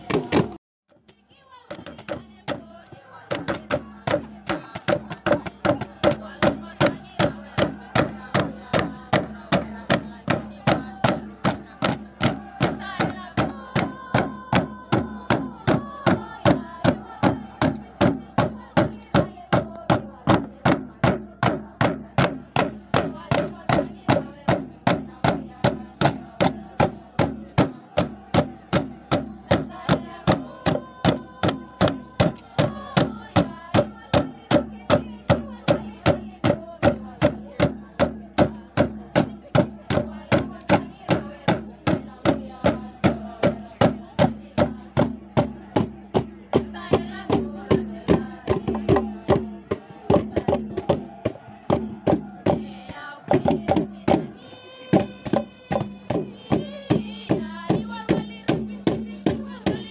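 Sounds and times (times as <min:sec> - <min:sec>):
wooden hand drum beaten: 0:00.0 - 0:00.6, 0:01.7 - 0:59.9.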